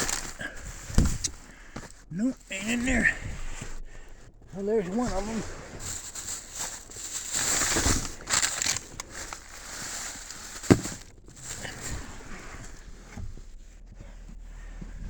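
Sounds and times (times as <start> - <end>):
coat fabric and gloves rustling: 0.0 - 15.0.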